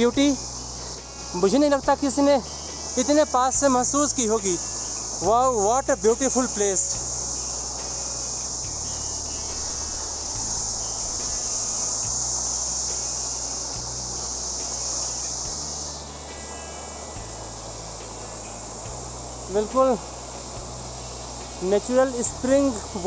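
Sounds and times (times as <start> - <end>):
high insect chorus: 0.0 - 23.0
waterfall rushing: 0.0 - 23.0.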